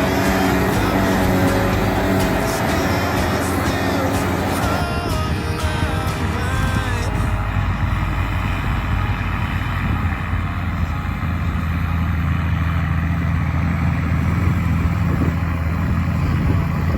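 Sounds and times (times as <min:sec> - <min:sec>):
harvester diesel engine drone: 0:00.0 - 0:16.9.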